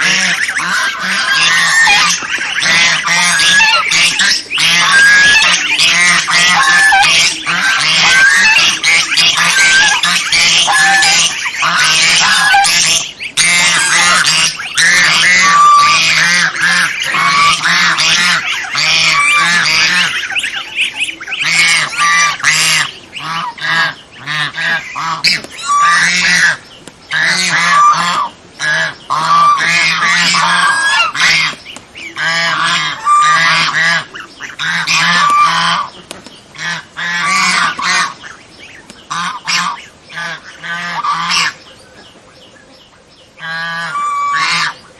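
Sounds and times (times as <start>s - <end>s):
goose honking: 0.0s - 31.6s, 32.2s - 35.9s, 36.6s - 38.4s, 39.1s - 41.6s, 43.4s - 44.8s.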